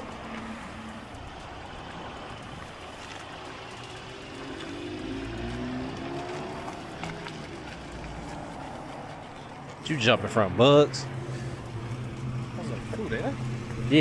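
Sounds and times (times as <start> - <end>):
outdoor background noise: 0.0 - 14.0
vehicle engine running: 0.0 - 14.0.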